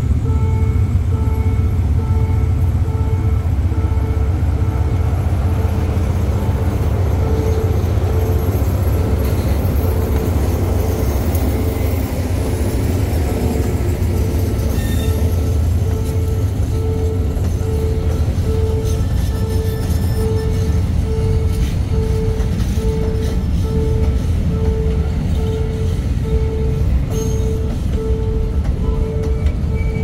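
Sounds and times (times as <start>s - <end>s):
crossing warning tone: 0.0s - 30.0s
diesel locomotive rumbling: 0.0s - 30.0s.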